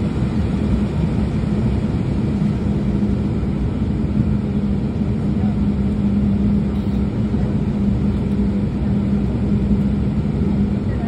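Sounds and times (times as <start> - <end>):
aircraft cabin engine hum: 0.0 - 11.0.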